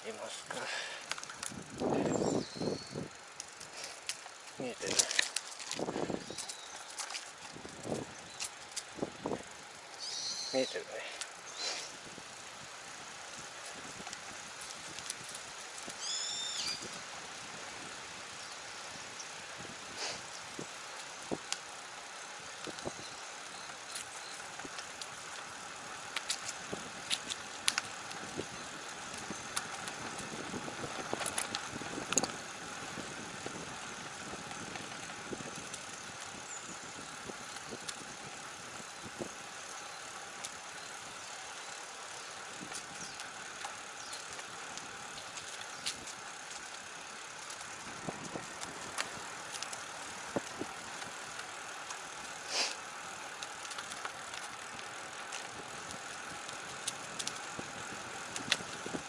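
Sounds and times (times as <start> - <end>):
bike clicks and rattles: 0.0 - 59.0
bike tyres rolling on pavement: 0.0 - 59.0.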